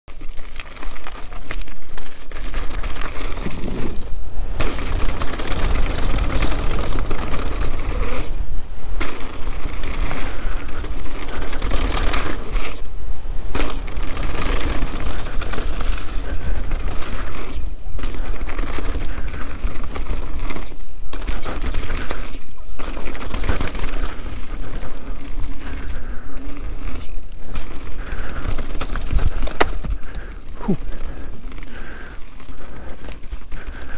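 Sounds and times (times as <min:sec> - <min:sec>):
bike chain and frame rattling: 0:00.1 - 0:33.9
bike tyres crunching over stones: 0:00.1 - 0:33.9.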